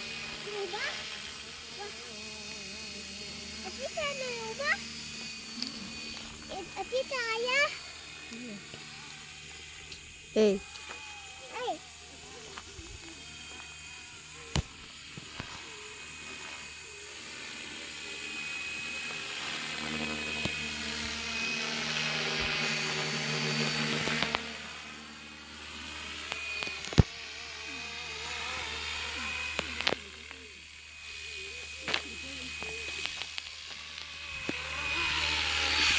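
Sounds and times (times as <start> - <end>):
rc helicopter whine: 0.0 - 35.9.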